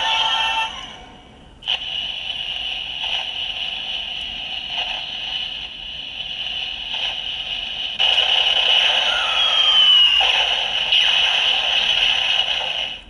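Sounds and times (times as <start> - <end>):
electronic rushing noise from toy speaker: 1.7 - 13.0.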